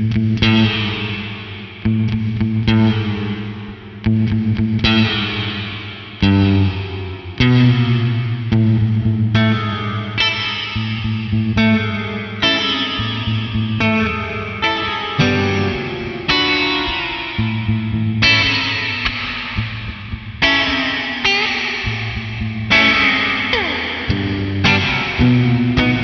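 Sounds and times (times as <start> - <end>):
electric guitar chords with reverb: 0.0 - 26.0.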